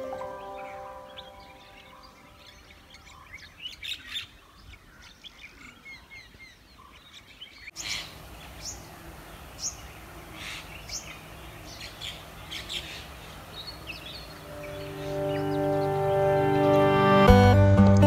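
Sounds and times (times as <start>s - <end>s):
small birds chirping: 0.0s - 17.3s
faint outdoor background: 0.0s - 18.0s.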